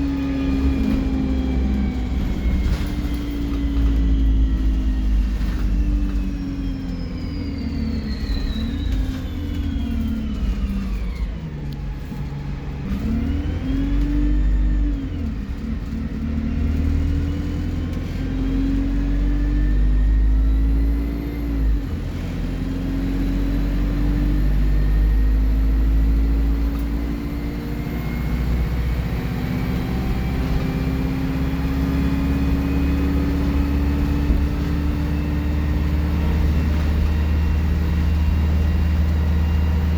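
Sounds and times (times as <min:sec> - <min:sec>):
bus diesel engine: 0:00.0 - 0:39.9.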